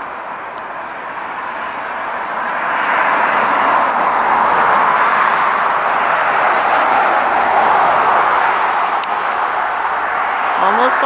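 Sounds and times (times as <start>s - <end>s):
rushing vehicle noise: 0.0s - 11.0s.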